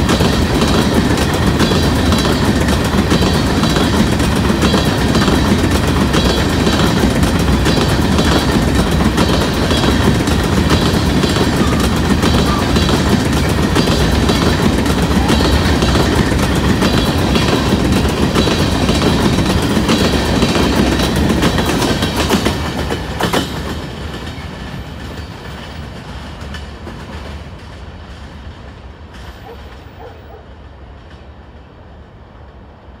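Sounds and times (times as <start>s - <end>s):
steel wheels clattering: 0.0s - 28.4s
freight train rolling past: 0.0s - 33.0s.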